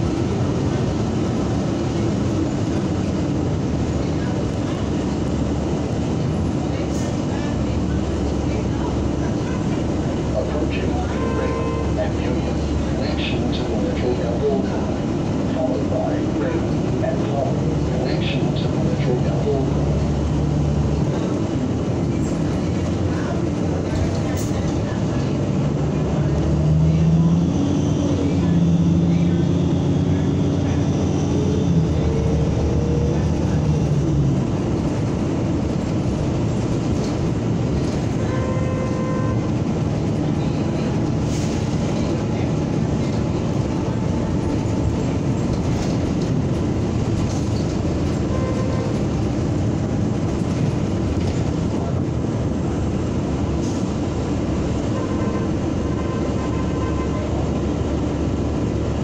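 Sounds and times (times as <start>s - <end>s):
bus engine whine: 0.0s - 59.0s
road noise: 0.0s - 59.0s.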